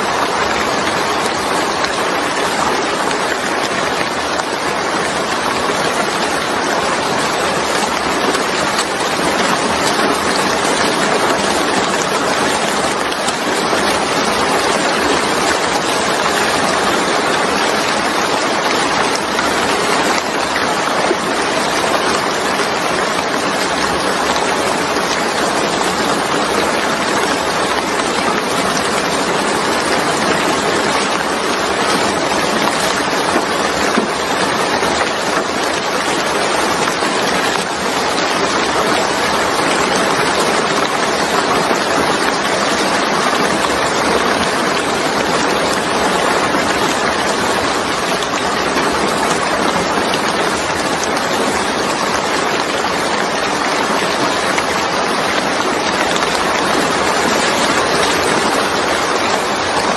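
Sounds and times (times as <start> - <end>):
rain falling on wet surface: 0.0 - 59.9.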